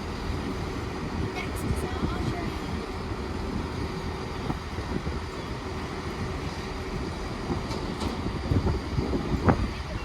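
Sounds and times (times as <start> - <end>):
train diesel engines rumbling: 0.0 - 10.0.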